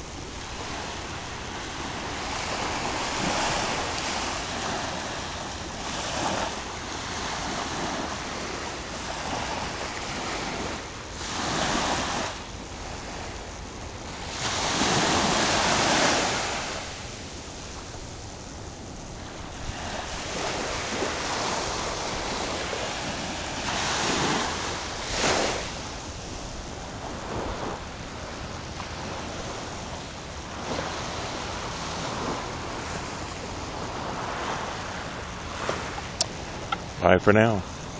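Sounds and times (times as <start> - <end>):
small waves washing on sand: 0.0 - 37.9.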